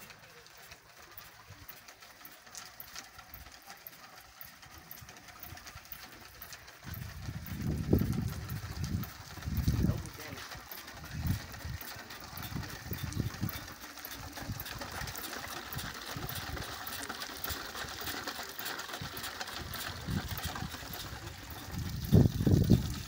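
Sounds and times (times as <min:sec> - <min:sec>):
rope pump crank clicking and rattling: 0:00.0 - 0:23.0.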